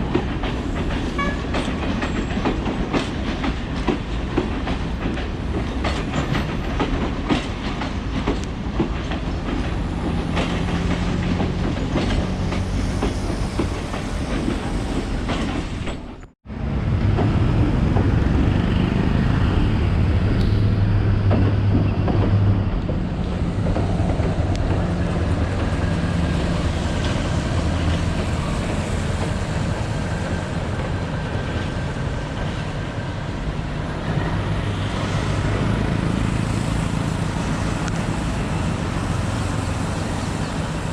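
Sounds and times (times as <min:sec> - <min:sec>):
train wheels clicking over rail joints: 0:00.0 - 0:16.3, 0:20.3 - 0:40.9
diesel locomotive engine humming: 0:00.0 - 0:40.9
train rumble: 0:00.0 - 0:40.9.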